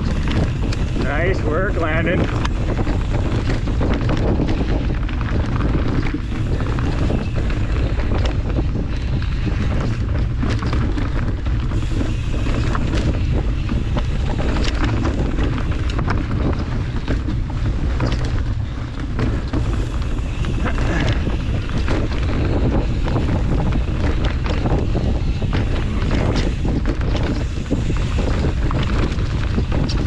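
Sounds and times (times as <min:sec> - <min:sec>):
bike rattling over rough ground: 0:00.0 - 0:30.0
wind buffeting microphone: 0:00.0 - 0:30.0.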